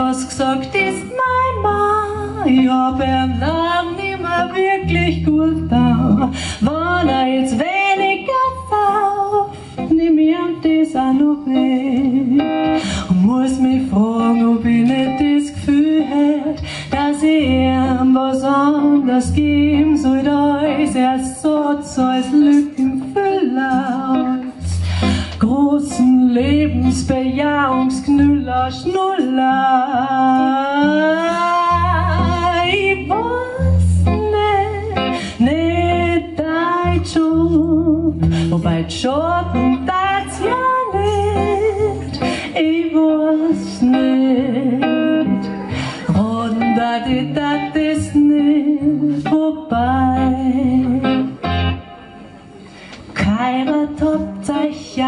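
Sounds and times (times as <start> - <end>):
woman singing: 0.0 - 51.9, 53.1 - 55.0
acoustic guitar: 0.0 - 55.0.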